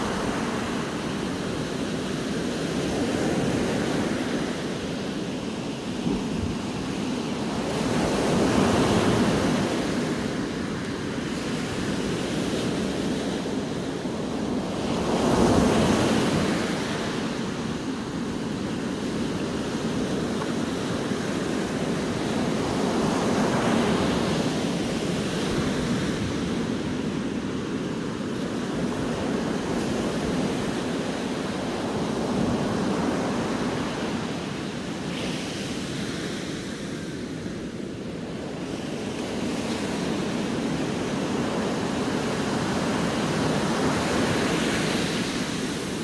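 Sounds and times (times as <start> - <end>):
waves breaking on beach: 0.0 - 46.0.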